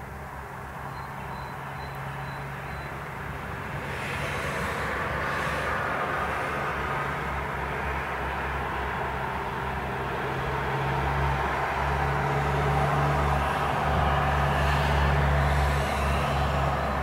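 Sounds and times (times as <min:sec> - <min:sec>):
road traffic engine hum: 0:00.0 - 0:17.0.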